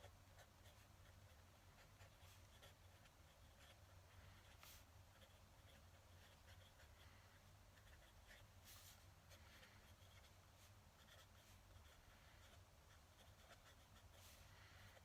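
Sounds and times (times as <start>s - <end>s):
pen nib scratching on paper: 0.0s - 15.0s.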